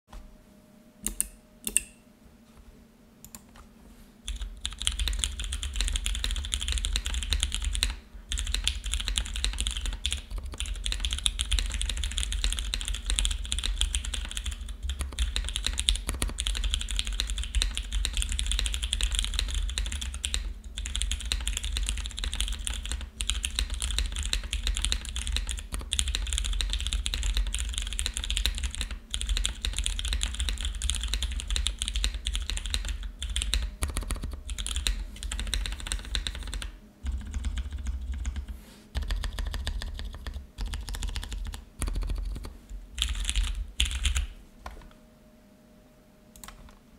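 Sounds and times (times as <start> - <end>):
mechanical keyboard typing: 4.3 - 44.4.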